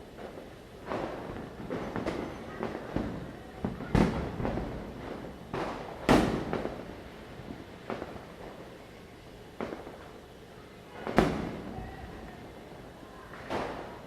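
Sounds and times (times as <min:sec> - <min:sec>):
firecrackers bursting: 0:00.0 - 0:10.3, 0:10.9 - 0:14.0.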